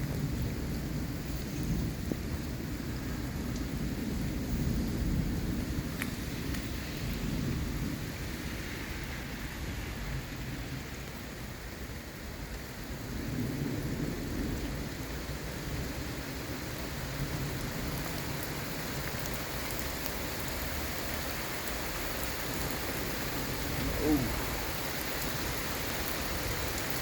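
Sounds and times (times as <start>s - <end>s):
low rumble of thunder: 0.0s - 27.0s
steady rain falling: 0.0s - 27.0s.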